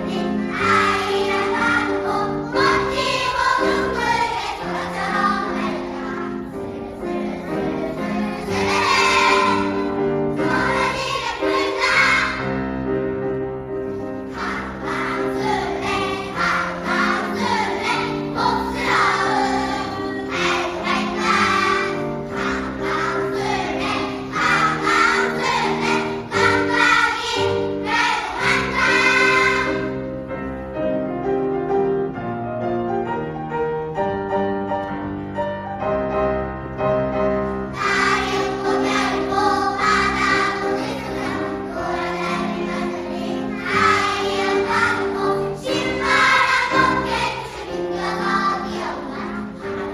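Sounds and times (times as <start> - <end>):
choir singing: 0.0 - 12.6, 14.2 - 30.1, 37.7 - 49.9.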